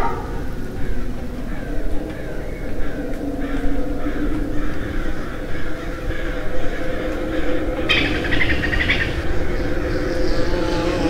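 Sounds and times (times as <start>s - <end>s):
crows cawing: 0.0s - 11.0s
low hum: 0.0s - 11.0s.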